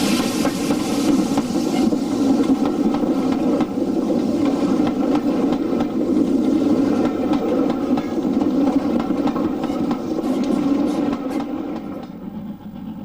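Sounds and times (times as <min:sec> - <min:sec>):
train engine droning: 0:00.0 - 0:13.0.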